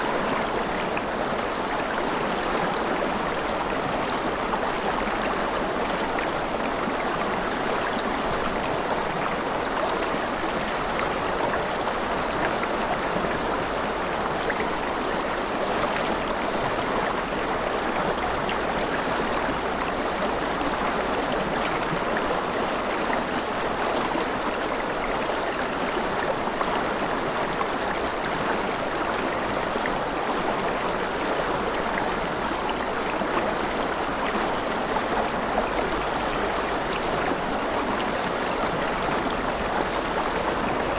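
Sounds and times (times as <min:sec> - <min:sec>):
river water flowing and splashing: 0:00.0 - 0:40.9.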